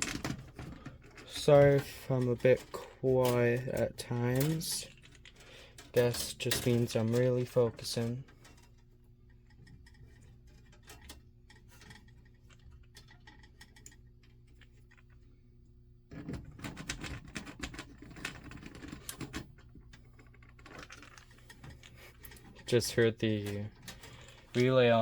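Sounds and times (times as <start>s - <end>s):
clicks and rattling of wiring: 0.0s - 15.4s, 16.1s - 25.0s
low electrical hum: 0.0s - 25.0s.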